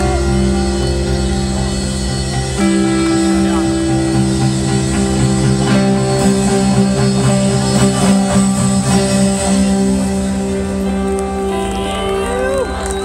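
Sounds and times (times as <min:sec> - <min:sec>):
picked electric guitar notes: 0:00.0 - 0:13.0
post-rock band playing live: 0:00.0 - 0:13.0.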